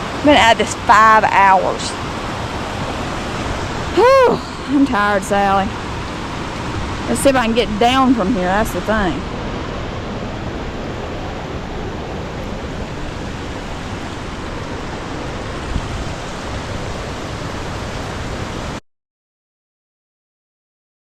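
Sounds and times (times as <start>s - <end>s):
river running over boulders: 0.0s - 18.8s.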